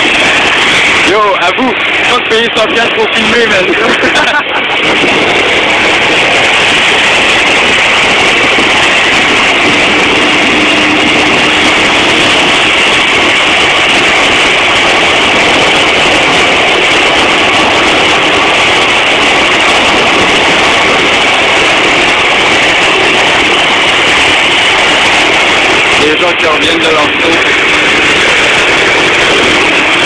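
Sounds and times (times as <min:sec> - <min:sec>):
propellers rushing: 0:00.0 - 0:30.0
turbine whine: 0:00.0 - 0:30.0.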